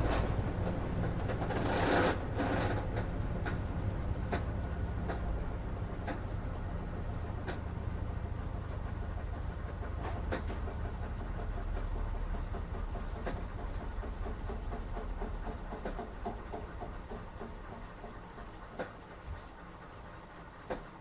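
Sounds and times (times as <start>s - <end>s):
washing machine rumbling: 0.0s - 21.0s.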